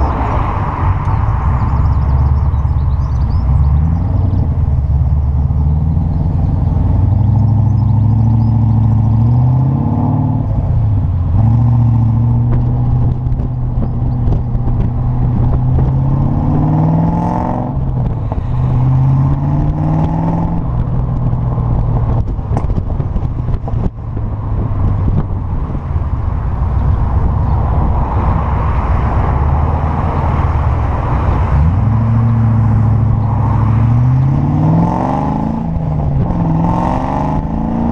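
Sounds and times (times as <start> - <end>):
car engine accelerating: 0.0 - 37.9.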